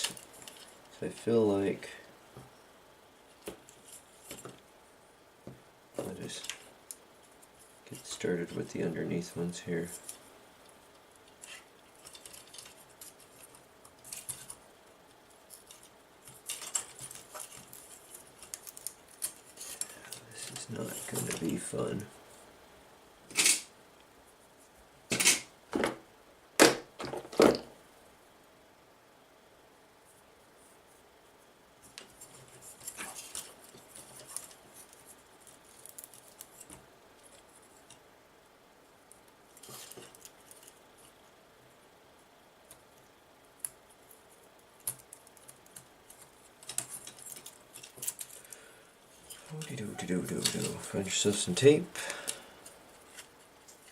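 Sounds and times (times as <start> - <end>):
rustling: 0.0 - 4.9, 5.9 - 22.6, 30.0 - 38.2, 38.8 - 53.9.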